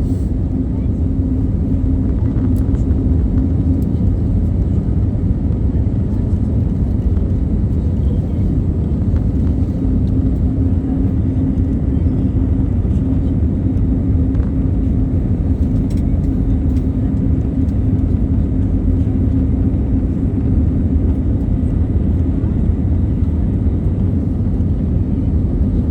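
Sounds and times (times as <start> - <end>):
constant low hum: 0.0 - 25.9
jet engines and airflow rumble: 0.0 - 25.9.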